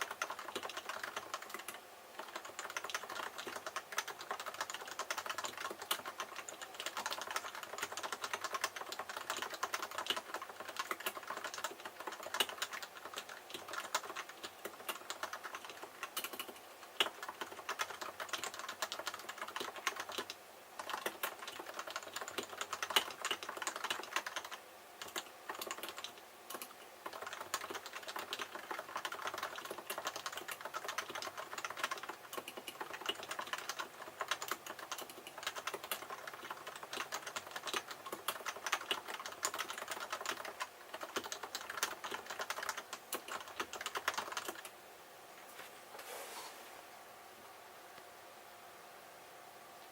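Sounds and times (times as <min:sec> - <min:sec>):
keyboard typing: 0:00.0 - 0:44.7.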